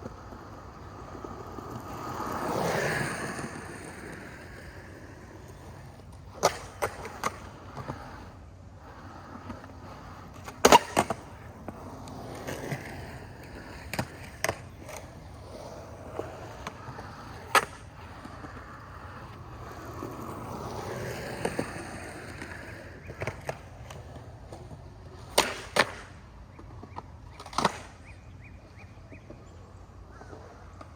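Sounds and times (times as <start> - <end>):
skateboard deck clacking on ground: 0.0 - 28.2
skateboard wheels rolling on concrete: 0.0 - 30.9.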